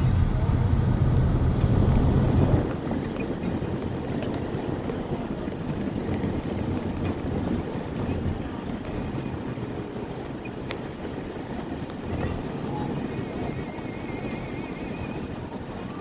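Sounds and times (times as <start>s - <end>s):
engine and tyre rumble: 0.0s - 16.0s
road and wind noise: 0.0s - 16.0s.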